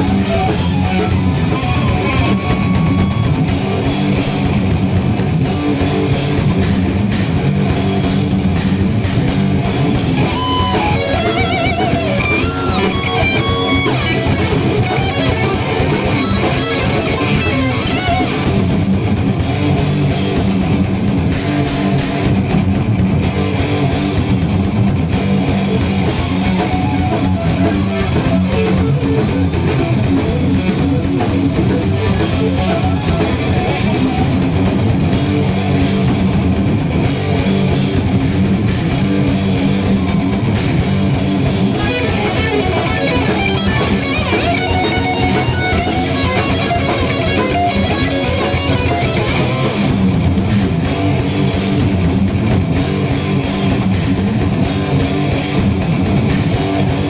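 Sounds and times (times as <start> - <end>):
distorted electric guitars: 0.0 - 57.0
drum kit: 0.0 - 57.0.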